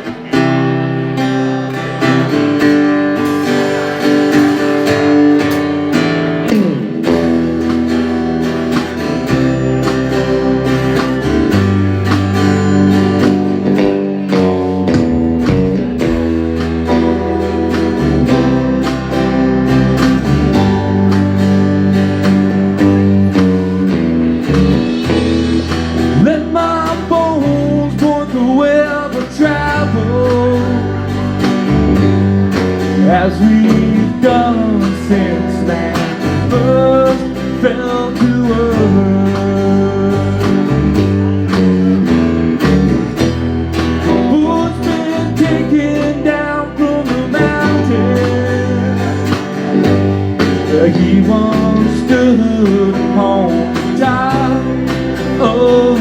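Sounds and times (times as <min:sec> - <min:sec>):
bending lead guitar notes: 0:00.0 - 0:56.0
live band playing: 0:00.0 - 0:56.0.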